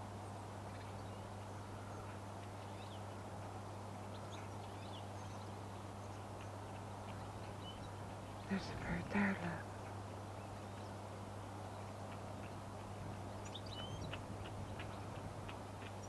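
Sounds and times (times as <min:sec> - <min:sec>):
low hum: 0:00.0 - 0:16.0
small birds chirping: 0:00.6 - 0:16.0.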